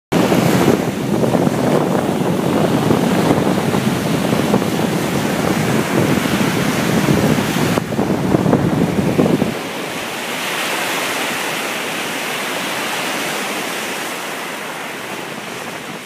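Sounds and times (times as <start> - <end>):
surf breaking on beach: 0.1 - 16.0
wind buffeting microphone: 0.1 - 16.0.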